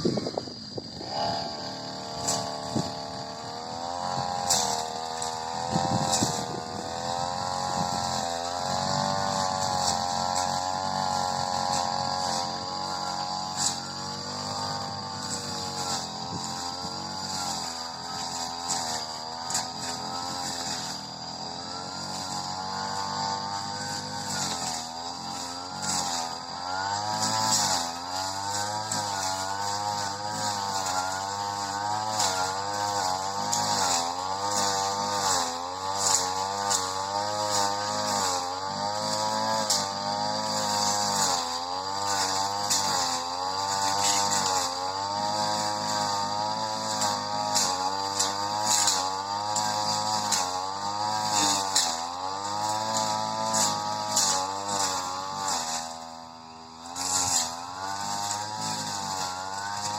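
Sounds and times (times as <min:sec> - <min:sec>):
brush cutter engine cutting grass: 0:00.0 - 0:59.9.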